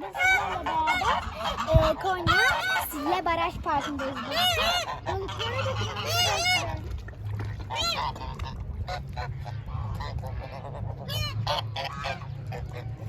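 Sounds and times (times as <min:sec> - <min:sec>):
waterfowl honking: 0:00.0 - 0:13.0.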